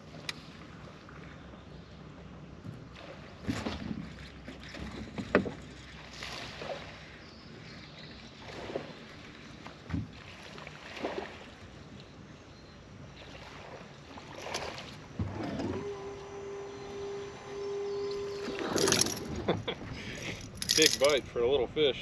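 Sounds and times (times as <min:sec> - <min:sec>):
water noise: 0:00.0 - 0:22.0
wind: 0:00.0 - 0:22.0.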